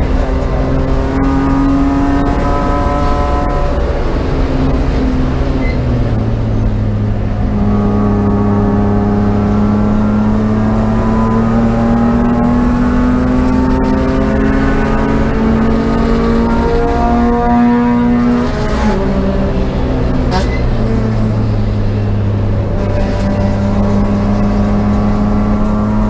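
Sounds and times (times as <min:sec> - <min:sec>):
race car engine accelerating: 0:00.0 - 0:26.0.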